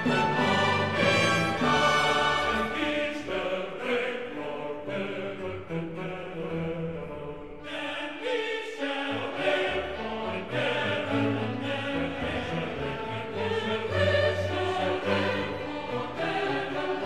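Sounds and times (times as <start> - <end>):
orchestral accompaniment: 0.0 - 8.0, 8.8 - 17.0
choir singing sustained notes: 0.0 - 17.0.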